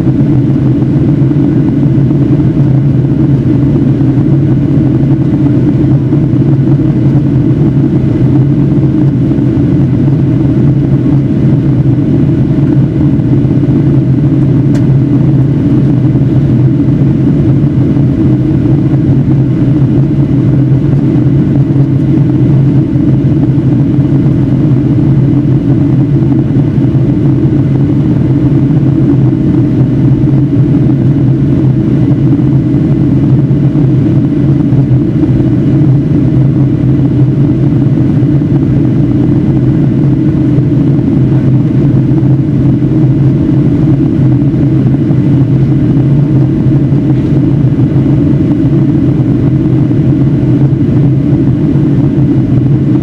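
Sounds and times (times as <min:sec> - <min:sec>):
airflow over fuselage: 0:00.0 - 0:53.0
airplane engines droning: 0:00.0 - 0:53.0
faint steady hum: 0:00.0 - 0:53.0.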